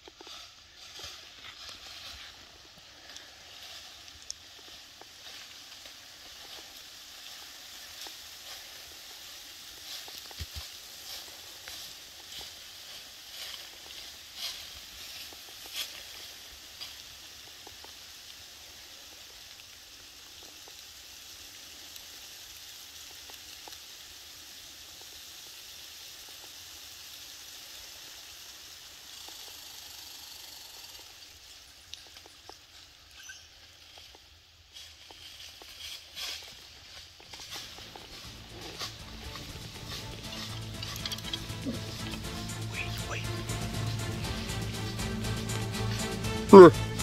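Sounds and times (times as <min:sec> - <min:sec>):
small rustles: 0:00.0 - 0:46.2
faint steady hiss: 0:00.0 - 0:47.0.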